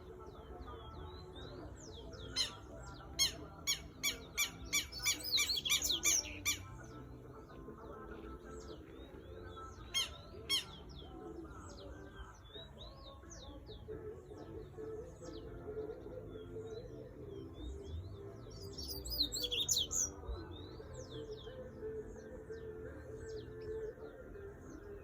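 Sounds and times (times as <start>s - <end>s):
bird singing sharp repeated notes: 0.0s - 7.4s, 8.4s - 25.0s.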